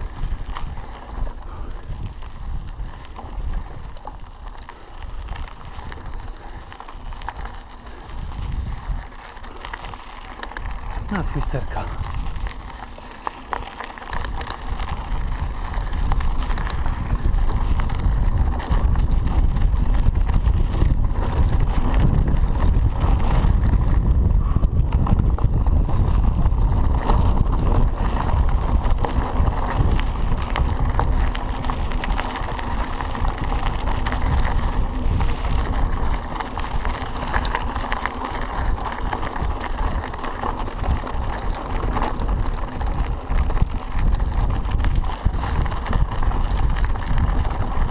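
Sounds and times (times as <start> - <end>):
bike rattling: 0.0 - 47.9
tyres crunching on gravel: 0.0 - 47.9
wind rumble on microphone: 0.0 - 47.9.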